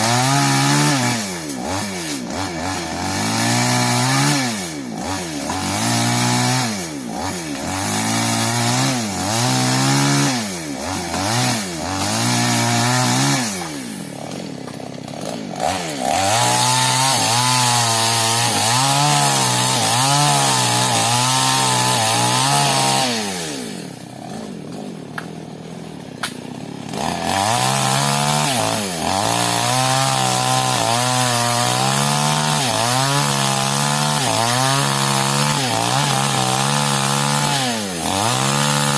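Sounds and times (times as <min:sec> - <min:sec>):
chainsaw revving and cutting wood: 0:00.0 - 0:38.9.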